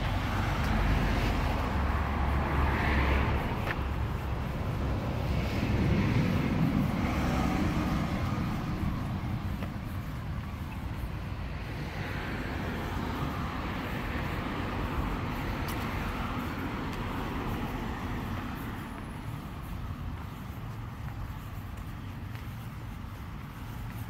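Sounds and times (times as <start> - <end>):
vehicle passing: 0.0 - 22.7
low traffic rumble: 0.0 - 24.0.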